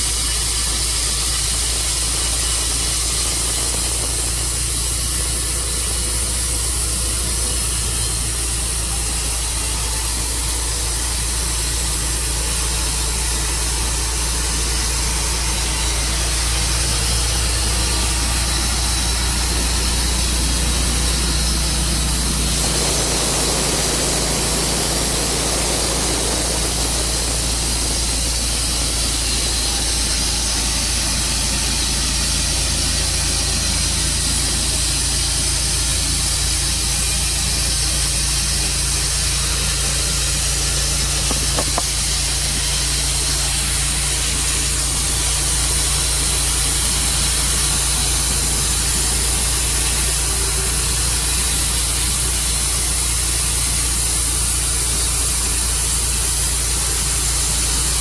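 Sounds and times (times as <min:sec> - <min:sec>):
saw hissing through log: 0:00.0 - 0:58.0
sawmill engine drone: 0:00.0 - 0:58.0.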